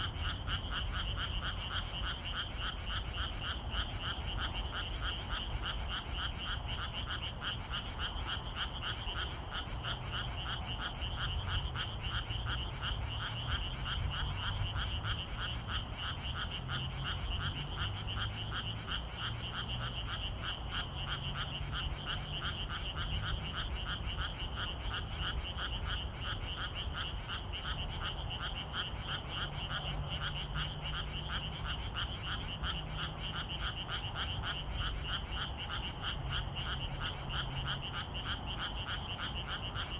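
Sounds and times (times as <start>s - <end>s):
chorus of frogs calling: 0.0s - 39.9s.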